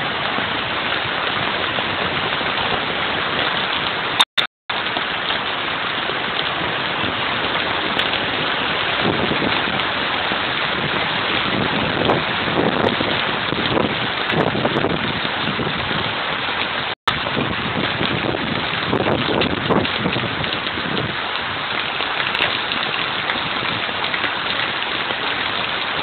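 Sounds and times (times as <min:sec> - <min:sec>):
heavy rain pouring: 0:00.0 - 0:26.0
wind buffeting microphone: 0:05.0 - 0:26.0.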